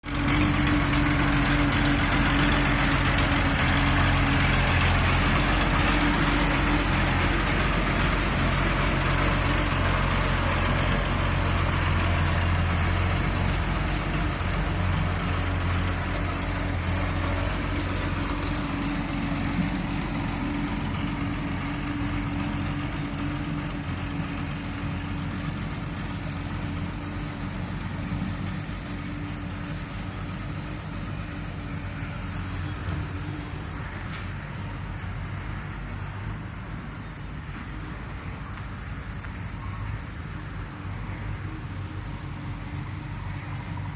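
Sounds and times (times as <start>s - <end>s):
road roller engine running: 0.0s - 43.9s.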